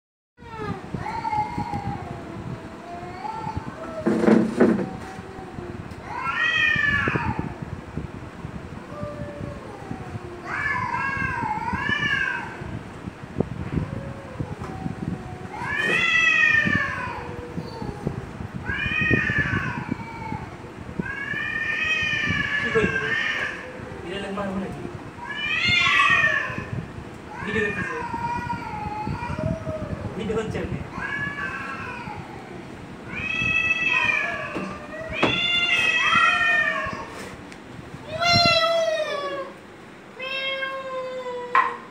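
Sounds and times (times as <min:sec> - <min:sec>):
cats yowling: 0:00.4 - 0:07.6, 0:08.8 - 0:12.7, 0:13.7 - 0:37.3, 0:38.0 - 0:39.6, 0:40.2 - 0:41.9.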